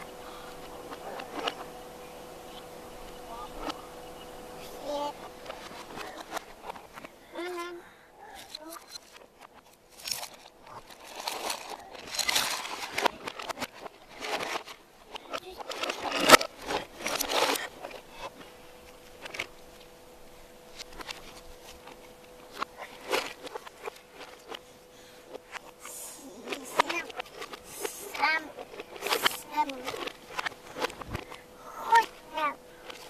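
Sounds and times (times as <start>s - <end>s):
plastic toys rattling and clattering: 0.8s - 1.6s, 4.8s - 18.4s, 19.1s - 19.8s, 20.7s - 33.0s.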